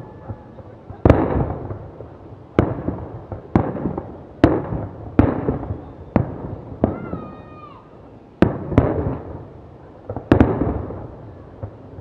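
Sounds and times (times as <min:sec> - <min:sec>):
fireworks bursting with booms: 0:00.0 - 0:12.0.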